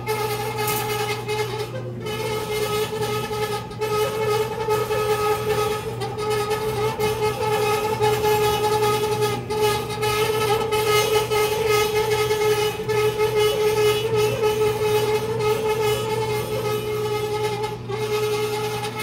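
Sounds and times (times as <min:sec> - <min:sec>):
clothes dryer squealing: 0:00.0 - 0:19.0.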